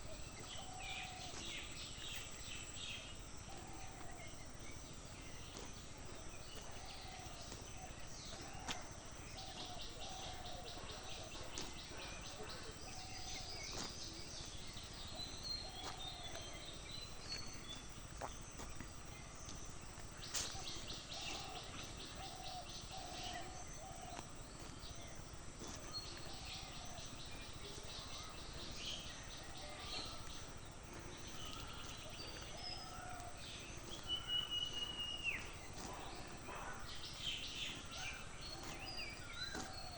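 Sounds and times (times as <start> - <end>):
background hiss: 0.0 - 39.9
birds chirping: 0.0 - 39.9.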